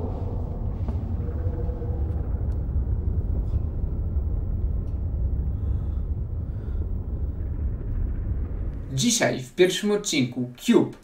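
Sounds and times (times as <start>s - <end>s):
low rumbling drone: 0.0s - 10.1s.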